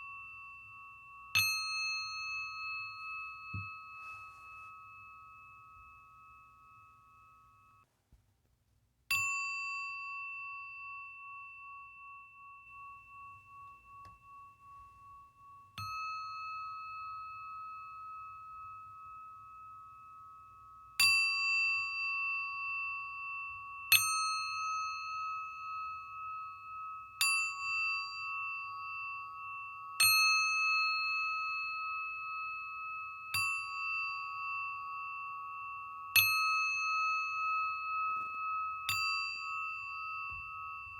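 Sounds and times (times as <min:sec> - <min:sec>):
singing bowl ringing: 0:00.0 - 0:07.9, 0:09.1 - 0:40.9.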